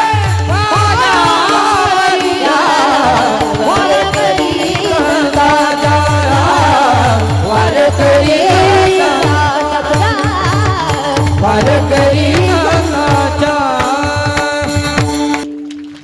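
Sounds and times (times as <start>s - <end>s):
person singing wordless melody: 0.0s - 15.6s
hand drum strokes: 0.2s - 16.0s
held instrumental notes: 0.3s - 16.0s.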